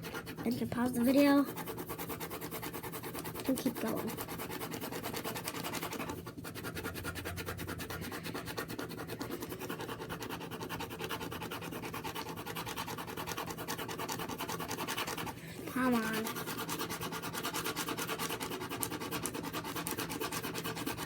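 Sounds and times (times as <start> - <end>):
pen scratching on paper: 0.0 - 21.0.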